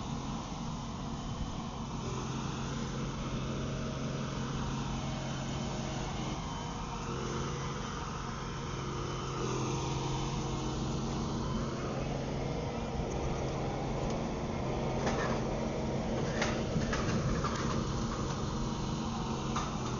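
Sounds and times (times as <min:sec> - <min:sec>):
engine running steadily: 0:00.0 - 0:19.9.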